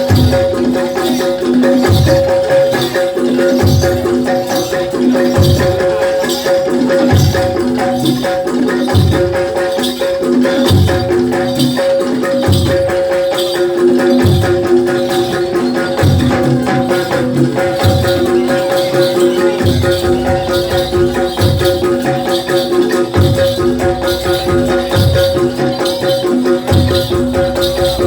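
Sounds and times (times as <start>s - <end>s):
rapid metallic rattling percussion: 0.0s - 28.0s
steady held melody line: 0.0s - 28.0s.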